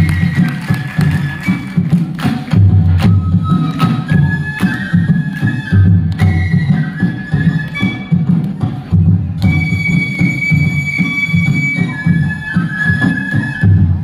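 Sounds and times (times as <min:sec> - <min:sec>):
drum beating steady rhythm: 0:00.0 - 0:14.0
flute melody: 0:00.0 - 0:14.0.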